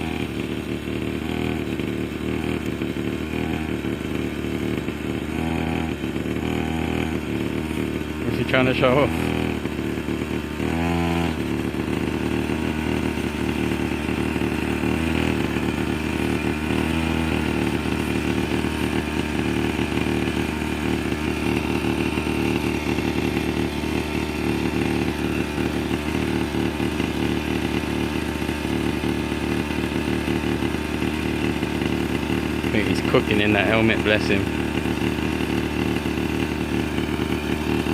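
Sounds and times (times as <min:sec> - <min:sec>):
quad bike engine at low revs: 0:00.0 - 0:37.9.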